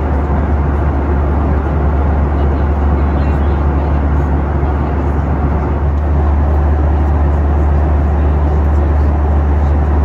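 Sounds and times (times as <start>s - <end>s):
airplane cabin drone: 0.0s - 10.0s.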